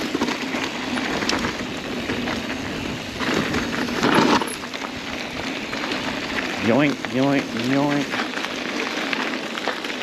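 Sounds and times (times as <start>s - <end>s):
bike tyres crackling over gravel: 0.0s - 10.0s.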